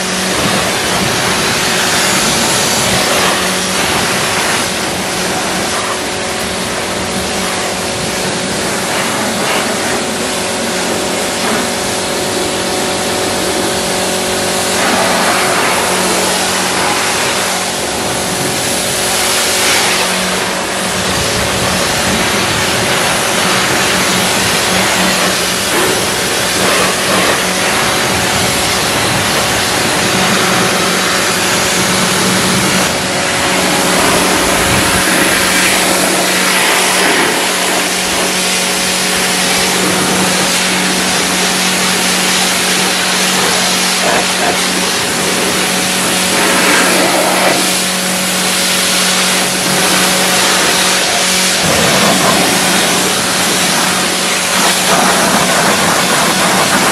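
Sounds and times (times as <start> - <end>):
pressure washer pump humming: 0.0 - 56.9
water jet hissing: 0.0 - 56.9.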